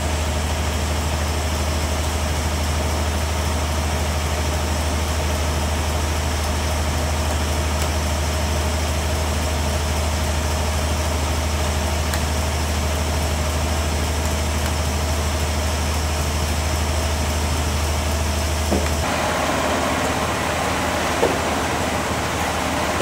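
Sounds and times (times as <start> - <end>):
hissing machine noise: 0.0 - 23.0
engine humming: 3.6 - 23.0.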